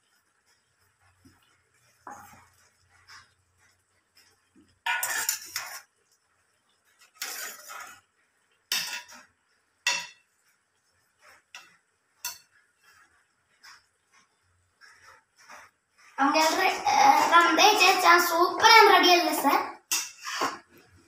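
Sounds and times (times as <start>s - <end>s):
metal spatula scraping a pot: 0.1s - 21.0s.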